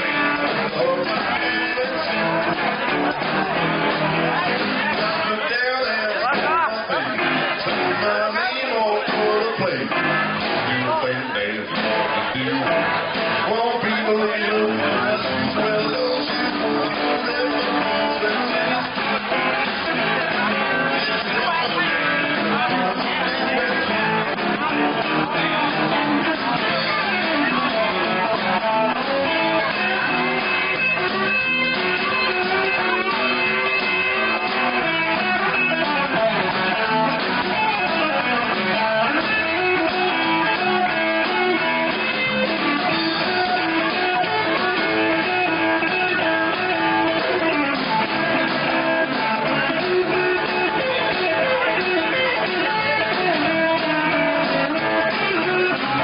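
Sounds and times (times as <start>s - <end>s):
electric guitars: 0.0s - 56.0s
live rock band playing: 0.0s - 56.0s.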